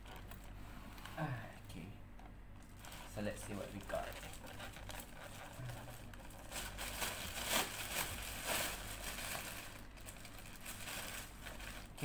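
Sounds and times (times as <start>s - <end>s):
plastic bag rustling and crinkling: 0.0s - 1.1s, 2.6s - 12.0s.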